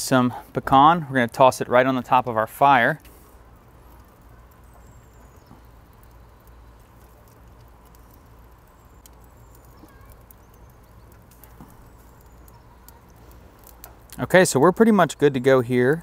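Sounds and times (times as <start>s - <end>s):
charcoal fire crackling: 0.0s - 16.0s.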